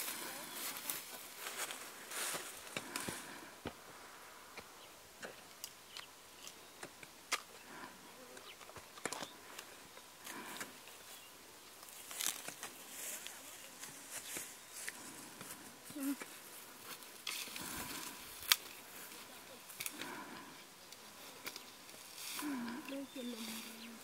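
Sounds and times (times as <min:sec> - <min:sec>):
rustling in dry grass: 0:00.0 - 0:04.5, 0:09.2 - 0:24.0.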